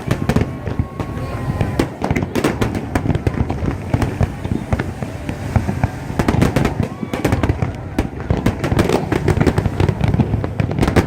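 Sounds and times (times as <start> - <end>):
fireworks cracks and bangs: 0.0 - 11.0
low rumble of bursts: 0.0 - 11.0.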